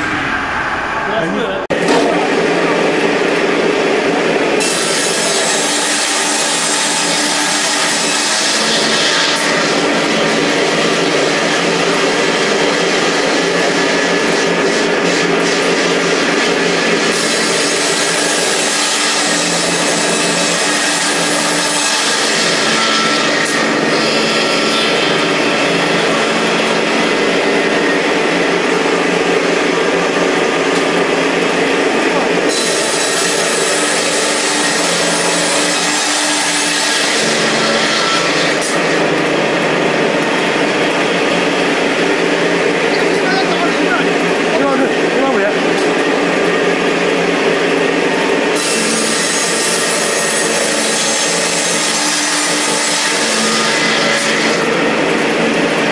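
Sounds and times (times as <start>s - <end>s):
circular saw cutting timber: 0.0s - 55.9s.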